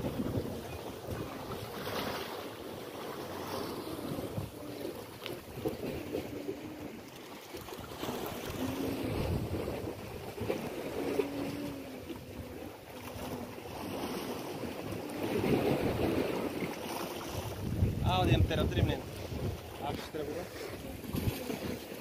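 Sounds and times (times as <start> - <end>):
wind buffeting microphone: 0.0 - 2.5, 3.3 - 7.1, 7.7 - 22.0
waves washing against rocks: 0.0 - 22.0.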